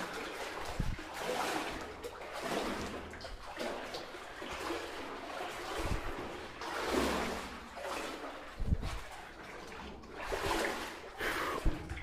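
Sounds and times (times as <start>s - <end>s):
water sloshing around legs: 0.0s - 12.0s.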